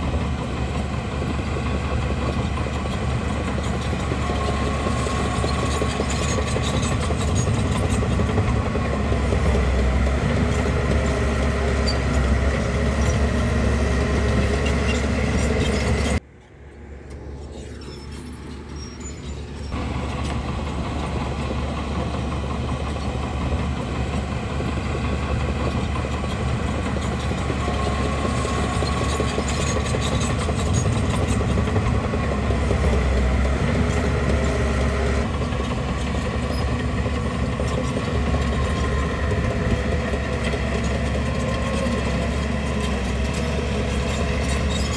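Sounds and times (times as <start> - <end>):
bulldozer diesel engine rumbling: 0.0 - 44.9.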